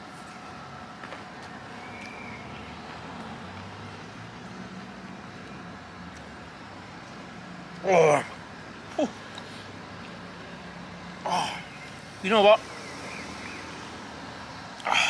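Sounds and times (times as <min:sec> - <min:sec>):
road traffic noise: 0:00.0 - 0:15.0
vehicle engine hum passing: 0:00.0 - 0:15.0.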